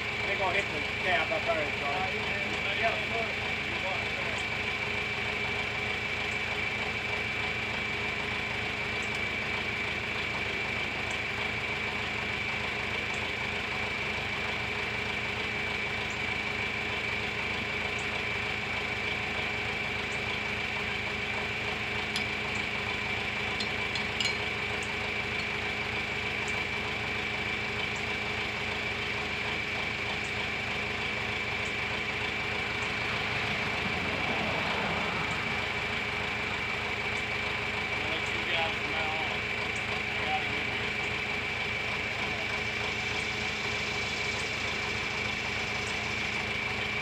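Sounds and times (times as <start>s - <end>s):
high even whine: 0.0s - 47.0s
tractor engine idling: 0.0s - 47.0s.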